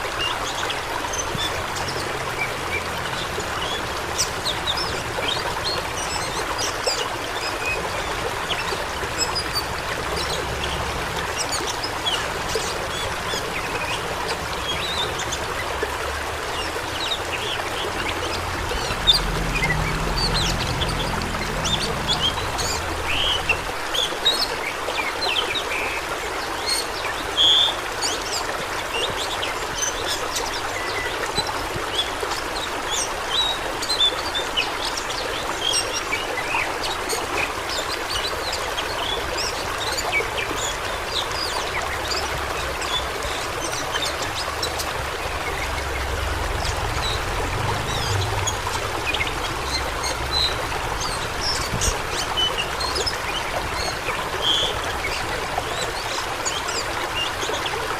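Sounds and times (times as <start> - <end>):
water rushing: 0.0 - 57.9
water splashing and gurgling: 0.0 - 57.9.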